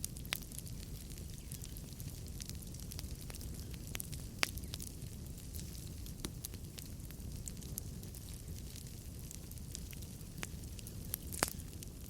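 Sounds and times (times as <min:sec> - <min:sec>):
burning log popping: 0:00.0 - 0:12.0
burning wood crackling: 0:00.0 - 0:12.0
fire rumbling: 0:00.0 - 0:12.0.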